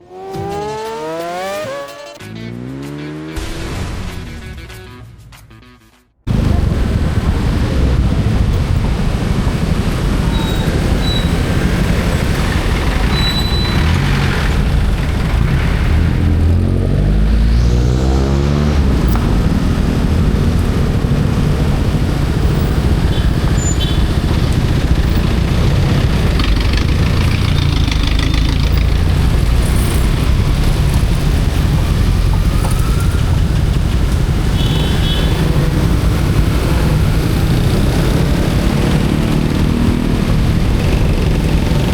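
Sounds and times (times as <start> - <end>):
motorcycle engine revving: 0.0 - 4.2, 10.6 - 41.9.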